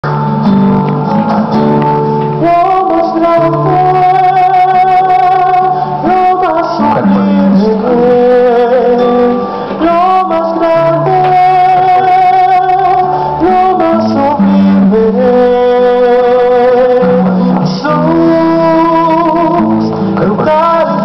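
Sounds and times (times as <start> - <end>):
classical guitar: 0.0 - 21.0
man singing slow liturgical song: 2.4 - 21.0.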